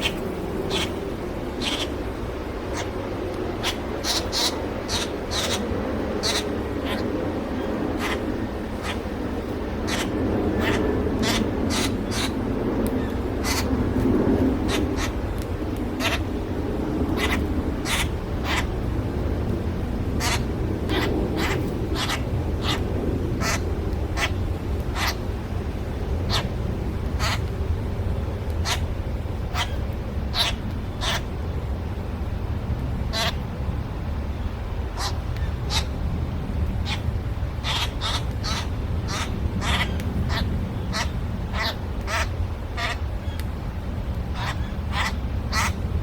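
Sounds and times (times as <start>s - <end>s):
birds calling: 0.0s - 19.0s, 20.0s - 27.6s, 28.5s - 31.4s, 33.1s - 33.4s, 34.4s - 36.0s, 36.6s - 46.0s
steady low rumble: 0.0s - 46.0s.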